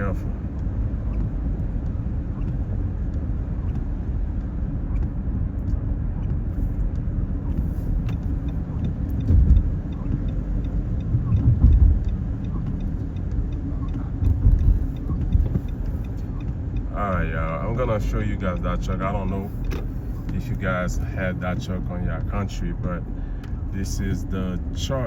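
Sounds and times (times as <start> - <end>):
car road noise rumble: 0.0 - 25.0
faint regular ticking: 0.0 - 25.0.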